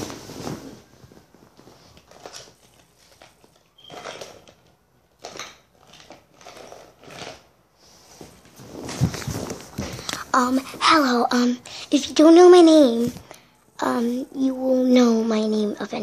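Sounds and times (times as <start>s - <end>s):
rustling and shuffling: 0.0s - 16.0s.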